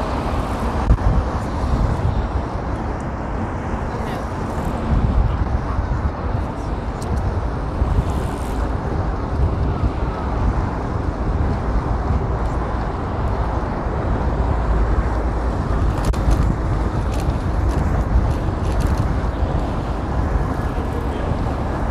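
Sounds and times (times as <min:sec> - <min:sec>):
street traffic: 0:00.0 - 0:21.9
wind rumble on microphone: 0:00.0 - 0:21.9.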